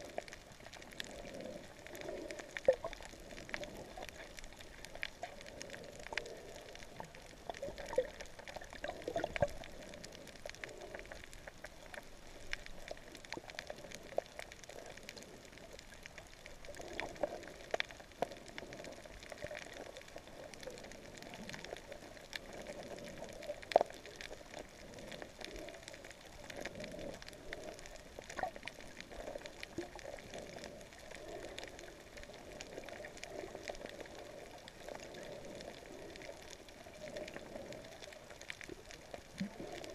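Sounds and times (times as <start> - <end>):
underwater crackle of clicks: 0.0 - 39.9.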